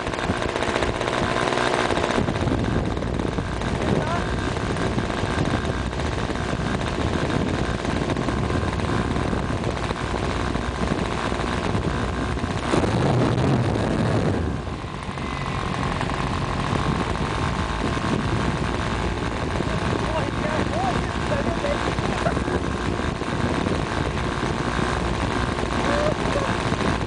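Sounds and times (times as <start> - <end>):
model airplane engine running: 0.0 - 27.0.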